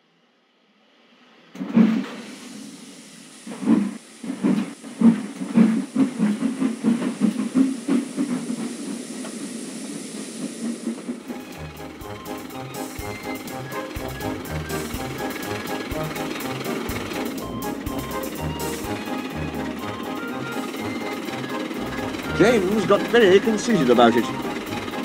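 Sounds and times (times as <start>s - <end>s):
steam hissing: 0.1s - 25.0s
steam locomotive exhaust chuffs: 0.8s - 25.0s.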